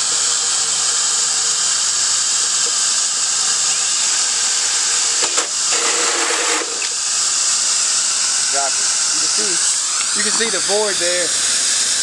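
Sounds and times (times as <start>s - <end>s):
cordless drill with hole saw: 0.0s - 12.0s.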